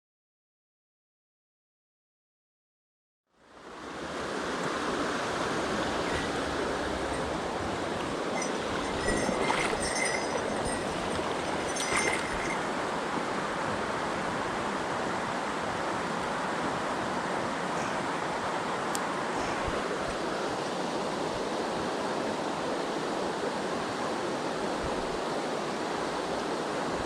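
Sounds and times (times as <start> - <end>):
stream water rushing: 3.4 - 27.0.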